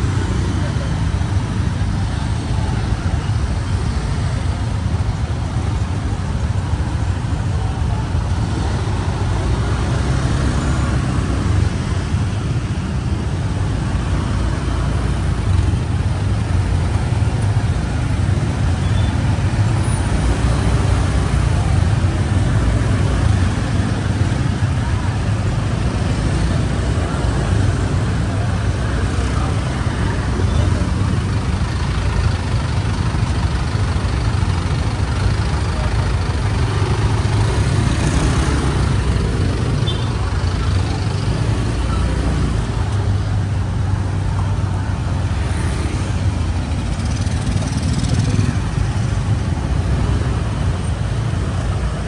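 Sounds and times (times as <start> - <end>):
road noise: 0.0 - 52.0
scooter engines running: 0.0 - 52.0.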